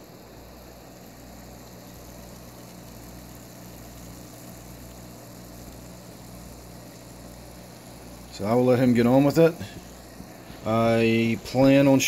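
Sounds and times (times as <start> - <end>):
aquarium equipment humming: 0.0 - 12.0.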